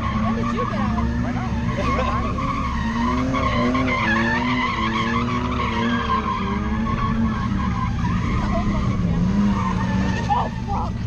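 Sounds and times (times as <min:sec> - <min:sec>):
car tyres squealing: 0:00.0 - 0:11.0.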